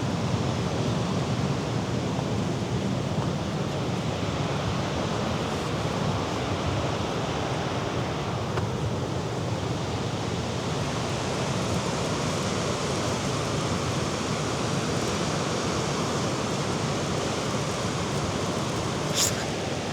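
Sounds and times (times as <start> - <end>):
wind: 0.0 - 19.9.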